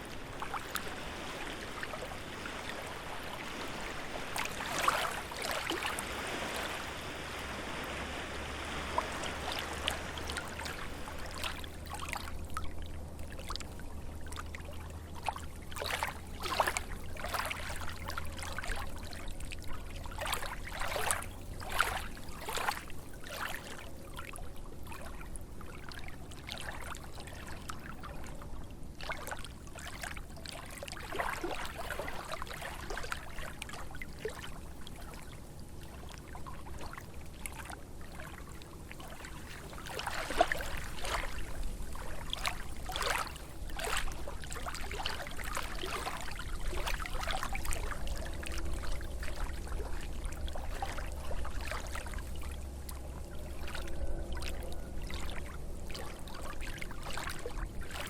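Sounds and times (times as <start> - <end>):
low steady rumble: 0.0 - 58.0
waves lapping against shore: 0.0 - 58.0.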